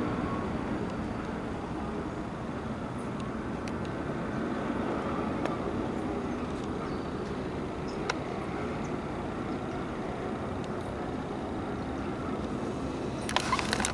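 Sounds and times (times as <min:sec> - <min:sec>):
helicopter flying overhead: 0:00.0 - 0:13.9.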